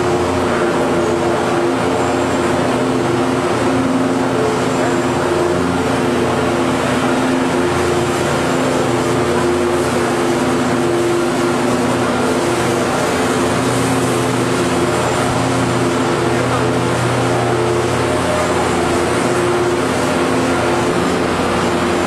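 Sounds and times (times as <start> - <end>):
machine drone: 0.0 - 22.0.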